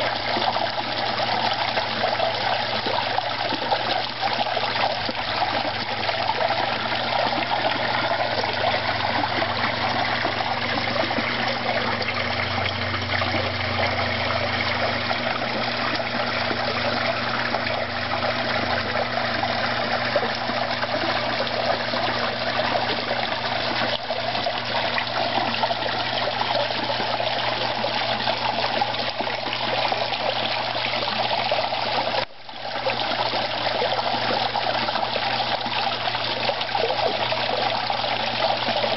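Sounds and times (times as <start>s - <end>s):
low steady hum: 0.0s - 38.9s
trickle of running water: 0.0s - 38.9s.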